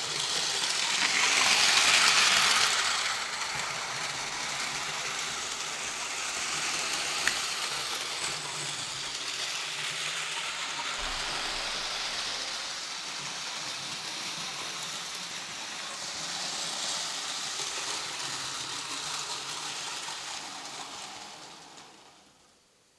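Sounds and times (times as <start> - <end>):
wheels rattling on rails: 0.0 - 22.3
model train motor whirring: 0.0 - 22.6.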